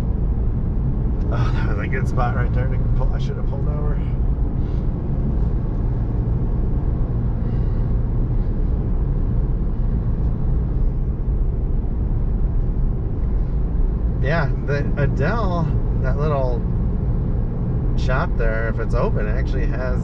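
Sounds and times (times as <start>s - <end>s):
truck engine rumble: 0.0s - 20.0s
tyre road noise: 0.0s - 20.0s.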